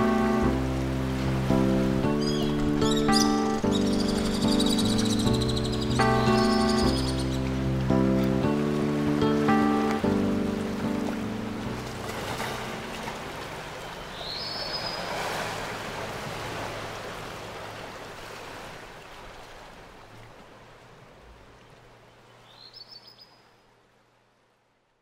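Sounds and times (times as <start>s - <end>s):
gentle waves: 0.0s - 25.0s.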